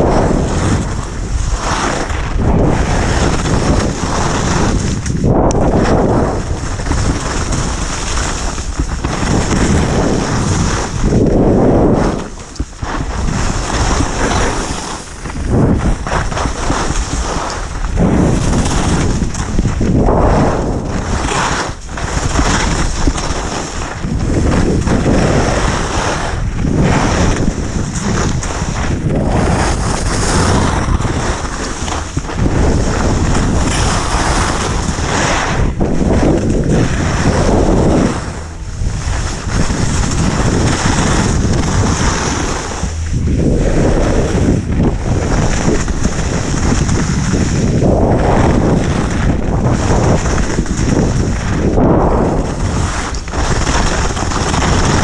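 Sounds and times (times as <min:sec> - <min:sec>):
skis scraping over snow: 0:00.0 - 0:55.0
wind buffeting microphone: 0:00.0 - 0:55.0.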